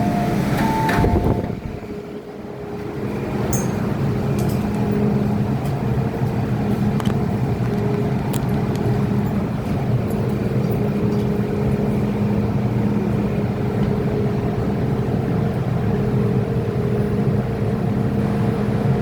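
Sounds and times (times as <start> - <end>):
electric train motor hum: 0.0 - 19.0.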